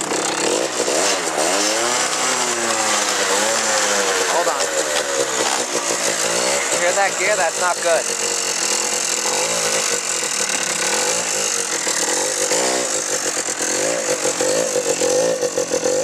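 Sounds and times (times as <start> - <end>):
gear noise: 0.0 - 16.0
quad bike engine revving: 0.0 - 16.0.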